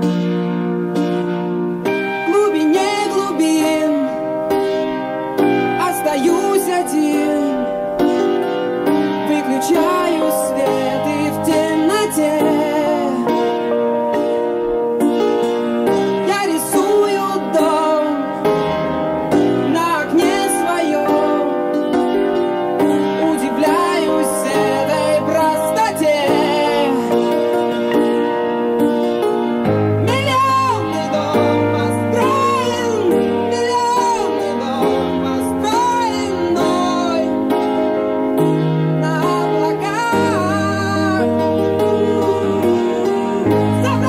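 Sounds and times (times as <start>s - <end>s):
sustained keyboard chords: 0.0s - 44.0s
wavering lead melody: 0.0s - 44.0s.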